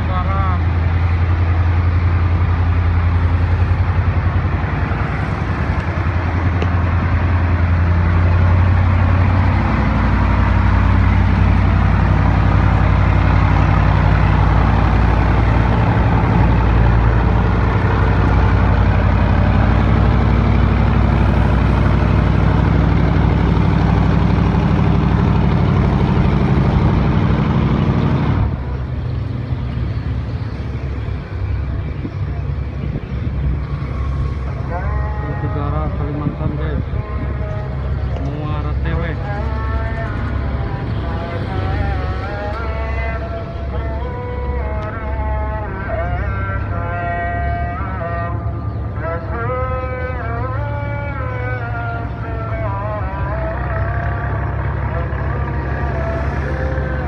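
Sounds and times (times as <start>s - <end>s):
heavy engine droning: 0.0s - 57.0s.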